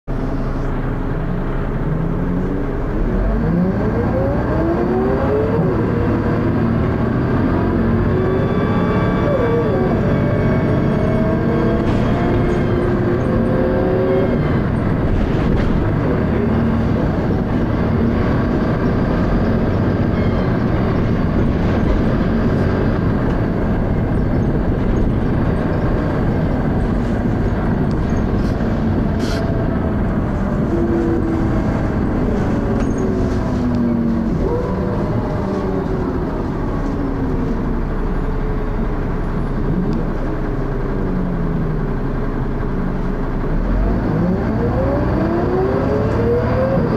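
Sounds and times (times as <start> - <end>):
bus engine rising and falling: 0.0 - 46.9.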